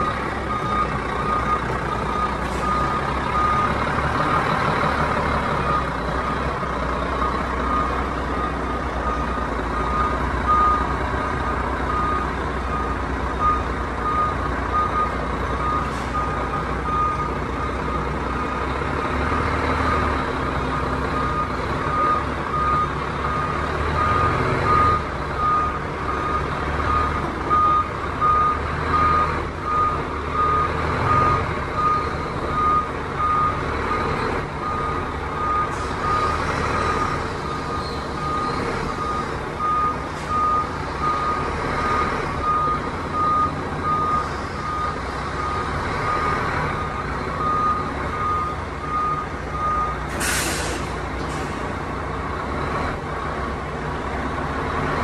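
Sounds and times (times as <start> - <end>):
diesel engine running: 0.0 - 55.0
truck reversing alarm beeping: 0.0 - 55.0.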